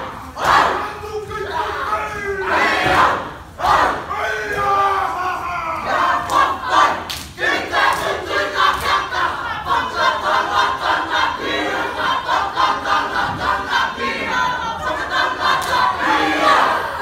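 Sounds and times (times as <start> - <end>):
group chanting and shouting: 0.0 - 17.0.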